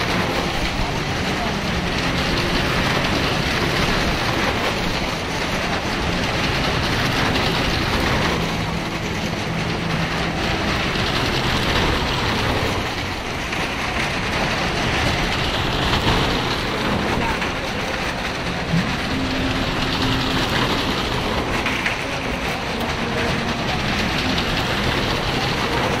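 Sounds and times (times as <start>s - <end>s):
car engines running: 0.0s - 26.0s
tyres rumbling over wooden planks: 0.0s - 26.0s.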